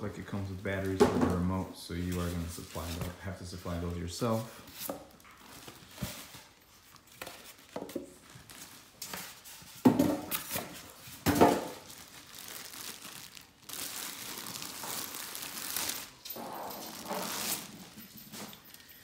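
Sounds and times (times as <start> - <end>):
plastic wrap crinkling: 2.0 - 18.9.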